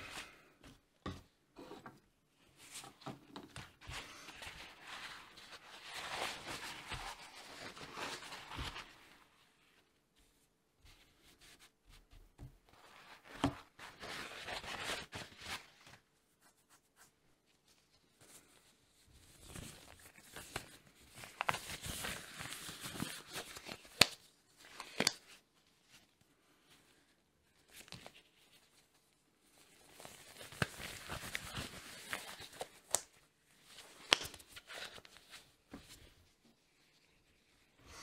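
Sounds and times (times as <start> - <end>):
disposable gloves rustling: 2.4 - 37.8.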